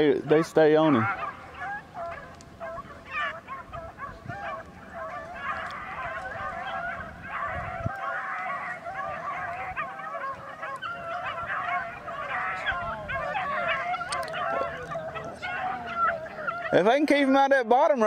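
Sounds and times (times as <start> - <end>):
pack of hounds baying: 0.0 - 17.4.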